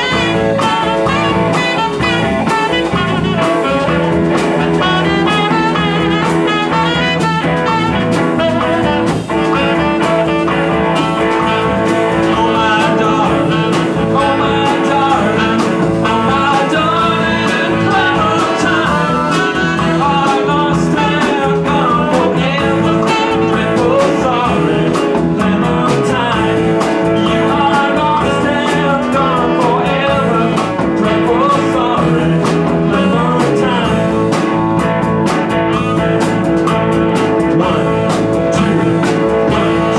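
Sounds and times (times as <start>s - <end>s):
electric guitar: 0.0s - 39.9s
hand drum: 0.0s - 39.9s
live blues band playing: 0.0s - 39.9s.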